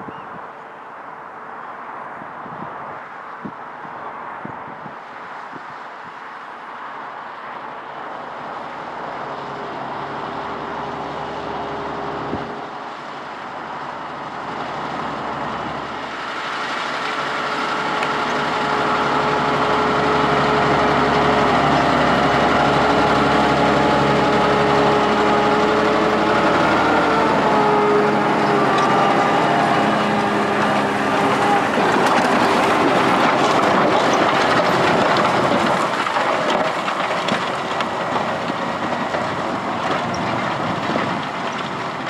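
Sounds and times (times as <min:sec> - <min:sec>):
tractor diesel engine under load: 0:07.0 - 0:42.0.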